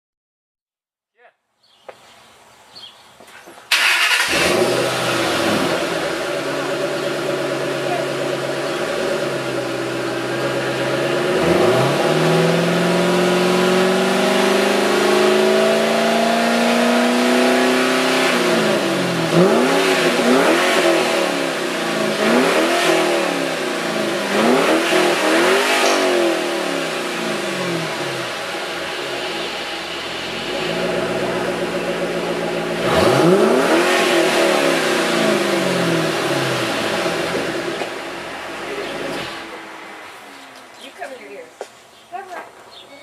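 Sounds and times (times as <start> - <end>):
car engine revving: 3.7 - 40.8.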